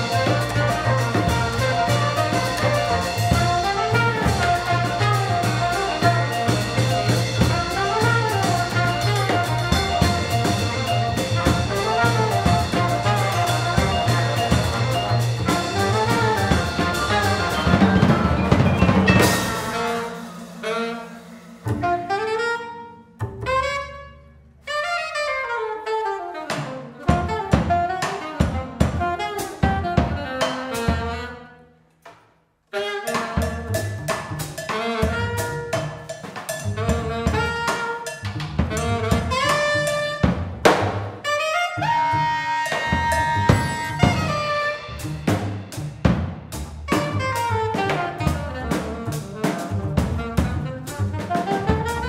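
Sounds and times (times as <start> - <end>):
live jazz band: 0.0 - 31.6, 32.7 - 52.0.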